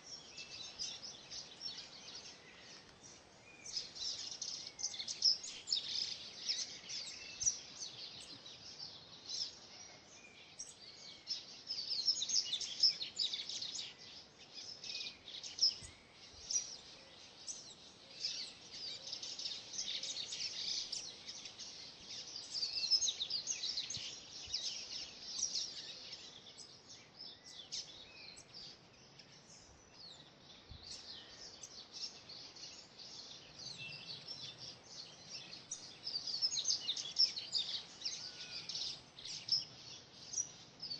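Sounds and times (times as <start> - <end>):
birds chirping and trilling: 0.0 - 40.9.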